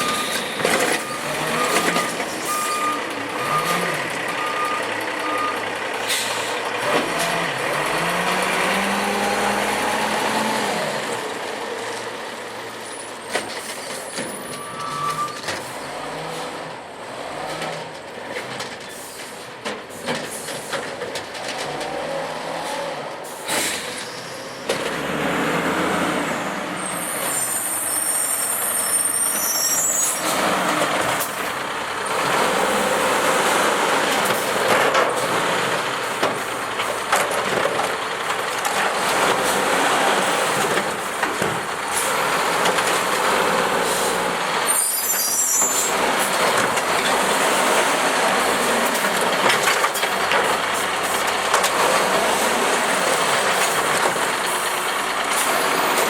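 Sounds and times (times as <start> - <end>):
garbage truck running: 0.0 - 56.0.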